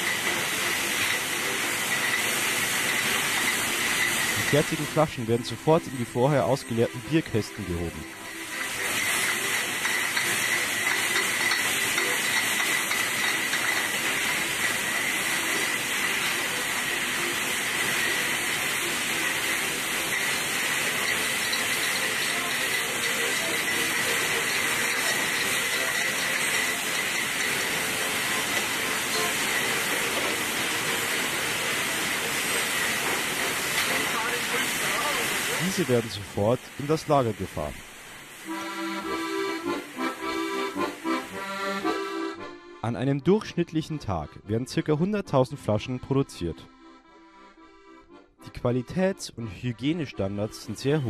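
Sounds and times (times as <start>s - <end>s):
bottling machinery hissing: 0.0s - 42.5s.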